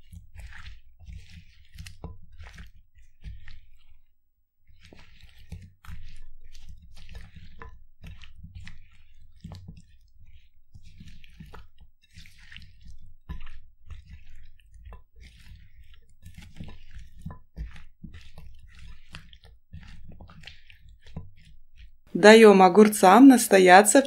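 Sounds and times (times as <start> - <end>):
spatula scraping porcelain bowl: 0.0 - 22.1
spatula stirring wet cucumber slices: 0.0 - 24.0.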